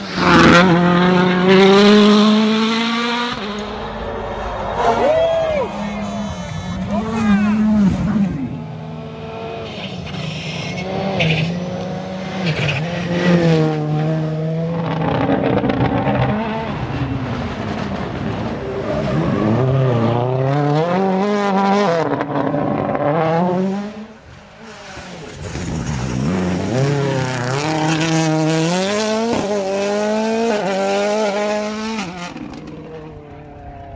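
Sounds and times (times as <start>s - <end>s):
car accelerating through upshifts: 0.0s - 3.9s, 6.8s - 33.5s
rally car engines revving hard: 0.0s - 5.0s, 5.6s - 33.2s.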